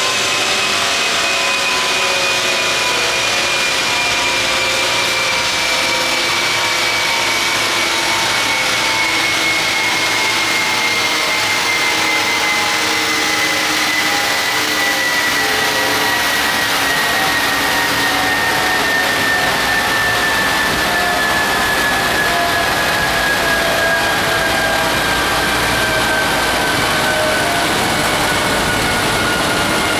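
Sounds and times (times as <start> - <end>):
car engine on dyno with whine: 0.0 - 29.9.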